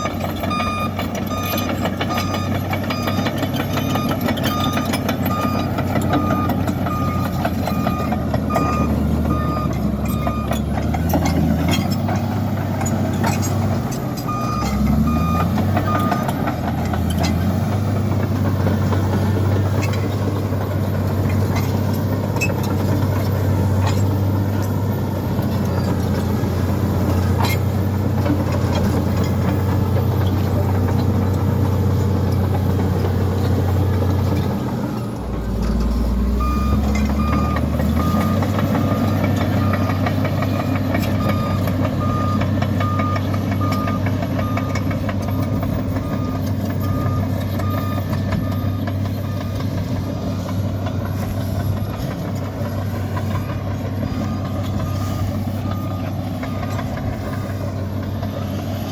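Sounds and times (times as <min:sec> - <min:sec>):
reversing alarm beeping: 0:00.0 - 0:30.9, 0:35.0 - 0:58.1
bulldozer diesel engine running: 0:00.0 - 0:58.9.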